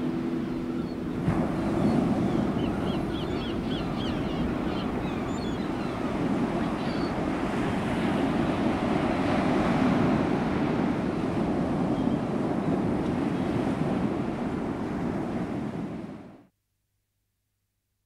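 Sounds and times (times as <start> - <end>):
ocean surf on a beach: 0.0 - 16.4.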